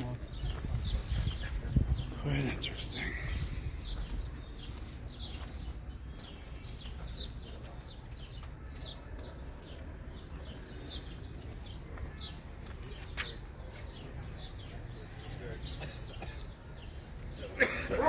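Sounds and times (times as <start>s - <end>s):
small birds chirping: 0.0s - 17.6s.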